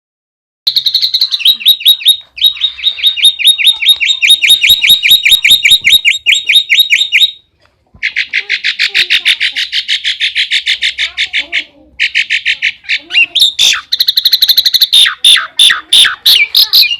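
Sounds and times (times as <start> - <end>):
starling calling: 0.7 - 16.9.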